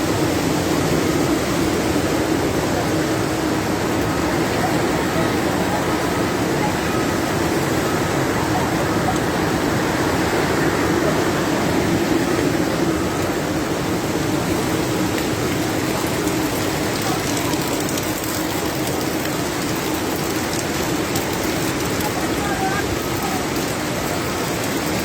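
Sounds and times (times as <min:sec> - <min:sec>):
rushing floodwater: 0:00.0 - 0:25.0.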